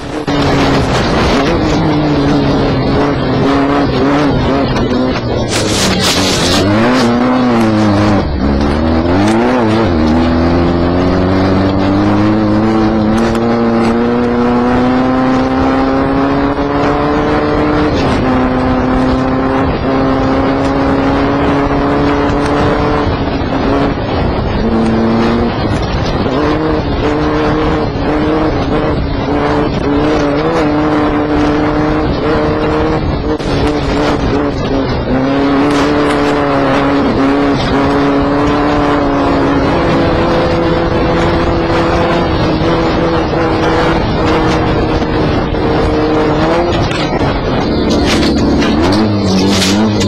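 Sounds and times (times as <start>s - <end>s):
race car engine from inside: 0.0s - 50.0s.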